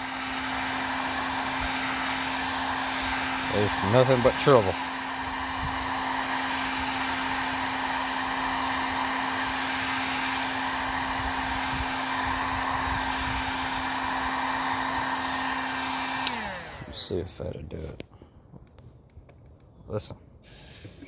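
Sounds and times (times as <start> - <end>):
heat gun motor hum: 0.0 - 17.2.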